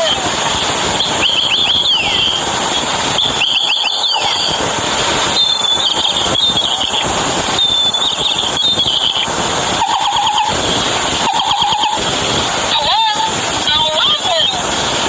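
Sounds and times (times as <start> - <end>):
steady hiss: 0.0 - 15.0
toy bird trilled chirps: 0.0 - 15.0.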